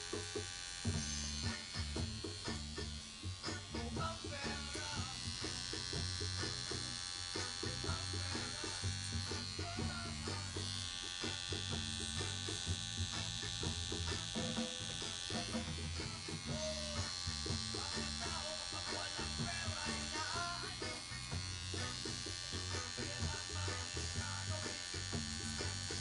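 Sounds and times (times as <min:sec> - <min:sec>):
tattoo machine buzzing: 0:00.0 - 0:26.0
background music with bass: 0:00.9 - 0:26.0.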